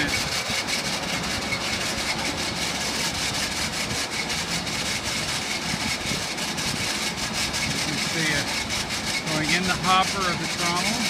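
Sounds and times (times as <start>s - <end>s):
rapid clatter of wood: 0.0s - 11.0s
wood grinder machinery running: 0.0s - 11.0s.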